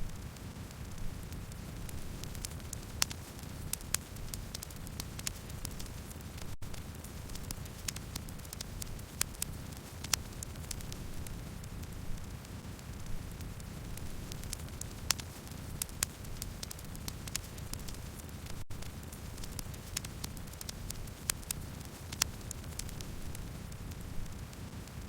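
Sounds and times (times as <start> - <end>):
campfire crackling and popping: 0.0 - 25.0
low rumble of burning: 0.0 - 25.0.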